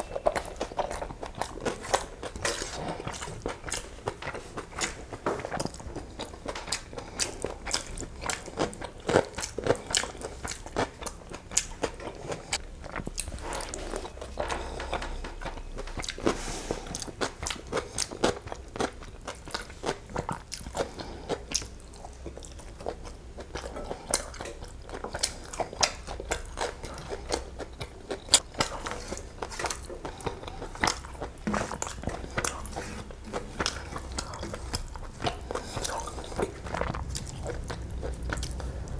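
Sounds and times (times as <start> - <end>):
chewing rice: 0.0 - 38.9.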